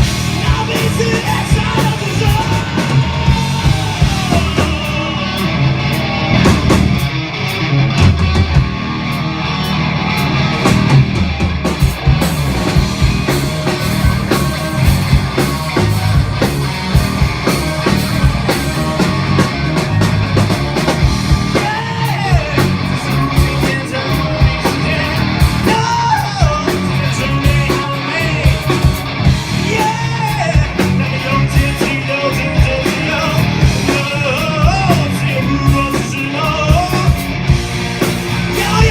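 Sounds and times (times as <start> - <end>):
singer yelling: 0.0 - 7.0, 13.1 - 37.5, 38.3 - 38.9
distorted electric guitars: 0.0 - 38.9
pounding drum kit: 0.0 - 38.9.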